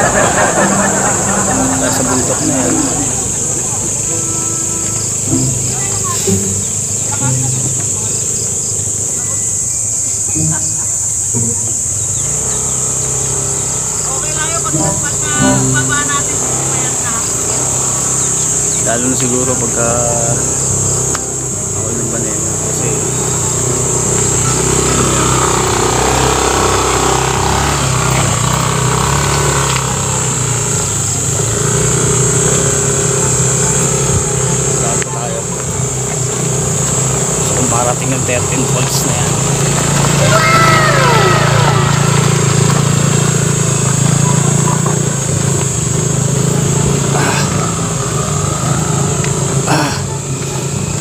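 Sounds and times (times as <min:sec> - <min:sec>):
high-pitched hiss: 0:00.0 - 0:51.0
motor scooter engine running: 0:00.0 - 0:51.0.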